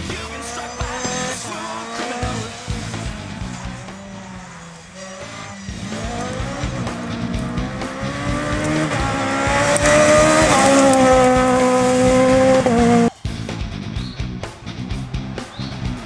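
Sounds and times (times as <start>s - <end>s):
rally car engine revving: 0.0s - 13.1s, 14.5s - 16.0s.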